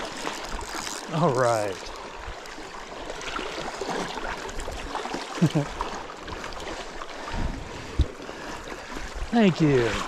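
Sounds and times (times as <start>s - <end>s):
river water running: 0.0s - 10.0s.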